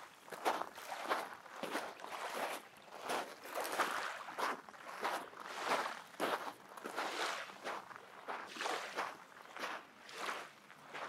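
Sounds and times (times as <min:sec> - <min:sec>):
footsteps crunching in sand: 0:00.0 - 0:11.0.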